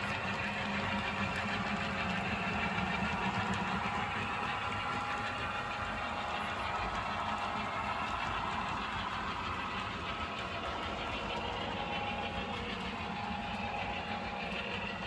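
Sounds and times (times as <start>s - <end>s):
model trains running: 0.0s - 15.0s.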